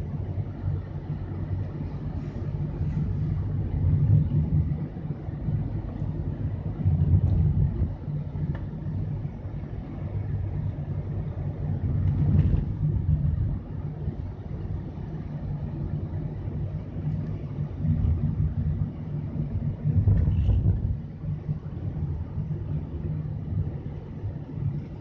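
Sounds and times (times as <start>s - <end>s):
highway traffic rumble: 0.0s - 25.0s.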